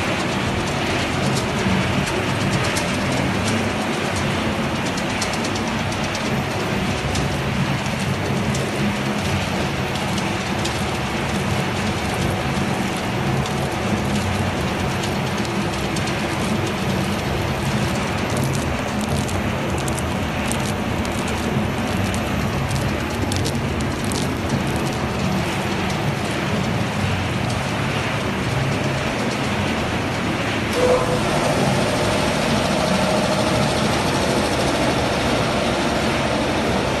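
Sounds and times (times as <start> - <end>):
low machine hum: 0.0 - 37.0
snacks clicking on mesh conveyor: 0.0 - 37.0.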